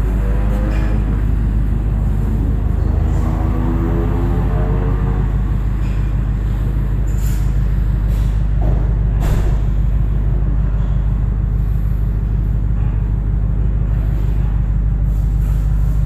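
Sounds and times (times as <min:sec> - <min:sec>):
subwoofer deep bass rumble: 0:00.0 - 0:16.0.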